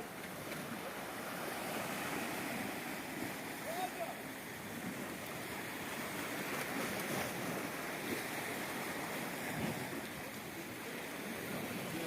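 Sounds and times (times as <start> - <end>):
surf washing onto beach: 0.0 - 12.0
wind: 0.0 - 12.0.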